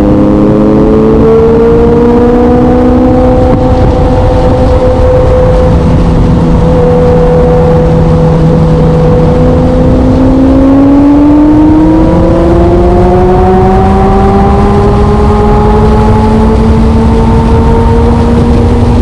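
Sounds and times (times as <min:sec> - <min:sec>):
motorcycle engine accelerating: 0:00.0 - 0:19.0
rush of noise: 0:00.0 - 0:19.0.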